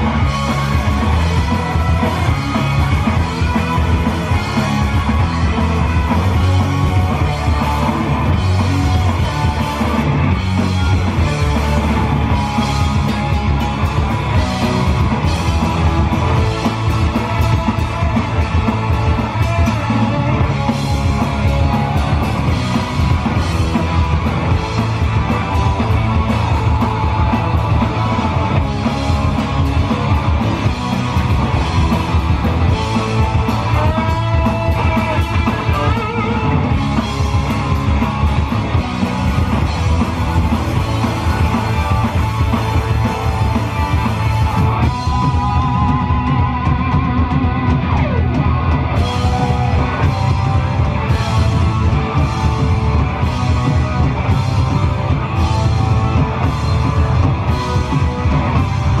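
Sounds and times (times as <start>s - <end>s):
bass: 0.0s - 59.0s
drums: 0.0s - 59.0s
electric guitars: 0.0s - 59.0s.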